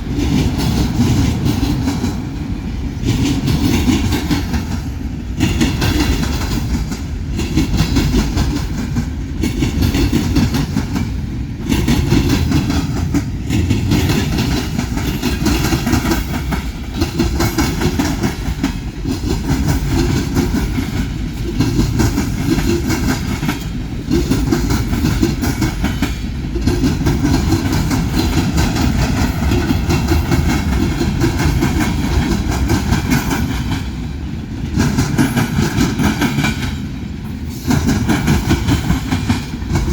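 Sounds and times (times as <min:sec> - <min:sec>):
clatter over rail joints: 0:00.0 - 0:39.9
train wheels rumbling on rails: 0:00.0 - 0:39.9.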